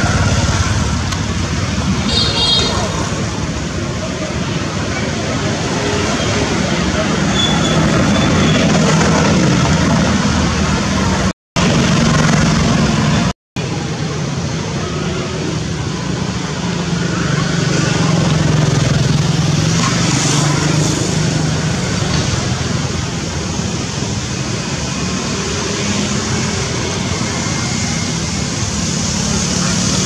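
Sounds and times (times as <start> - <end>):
road traffic engine hum: 0.0 - 30.0.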